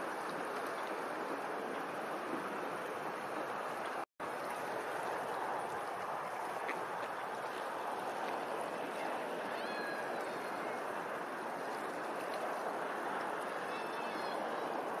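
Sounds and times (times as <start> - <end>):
rippling lapping water: 0.0 - 15.0.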